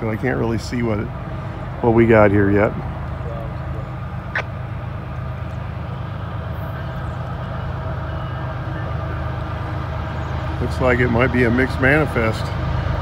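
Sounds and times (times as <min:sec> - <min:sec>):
distant diesel locomotive rumble: 0:00.0 - 0:13.0.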